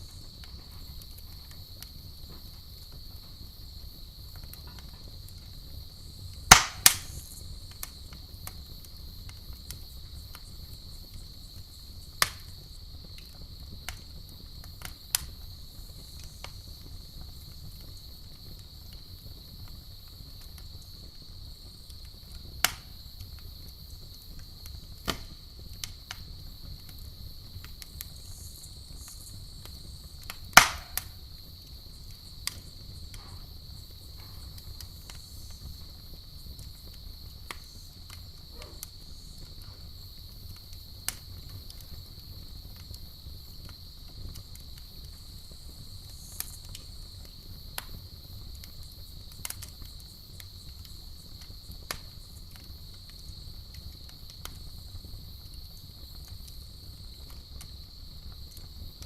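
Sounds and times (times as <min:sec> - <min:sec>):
crickets chirring: 0:00.0 - 0:59.0
fire rumbling: 0:00.0 - 0:59.0
wood popping in campfire: 0:00.0 - 0:59.0.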